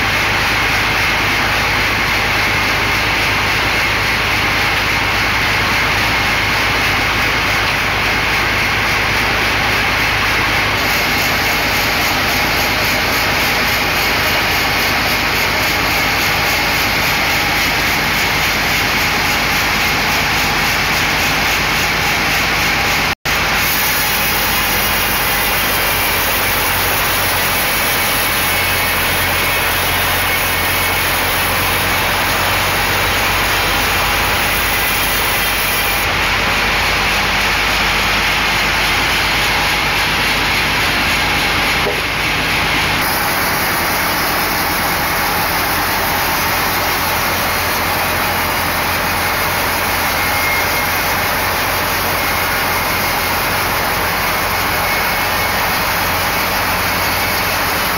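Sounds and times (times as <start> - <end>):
band saw cutting log: 0.0 - 57.9.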